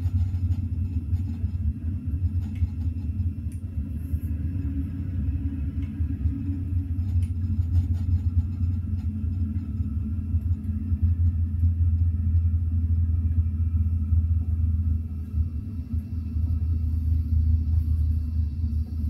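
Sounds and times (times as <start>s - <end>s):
train rumbling at speed: 0.0s - 19.0s.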